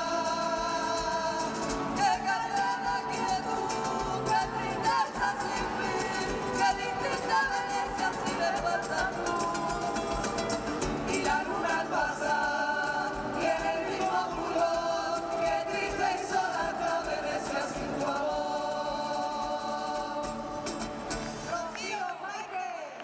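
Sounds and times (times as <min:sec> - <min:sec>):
vocal group singing in harmony: 0:00.0 - 0:23.0.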